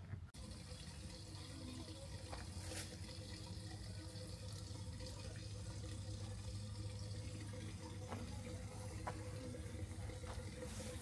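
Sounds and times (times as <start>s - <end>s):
low steady hum: 0.0s - 11.0s
running water: 0.4s - 11.0s.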